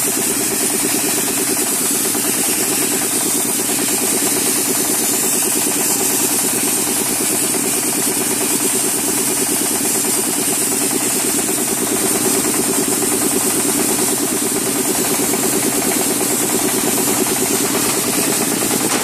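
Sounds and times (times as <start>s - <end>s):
compressor running with rapid pulse: 0.0s - 19.0s
nozzle spraying hiss: 0.0s - 19.0s.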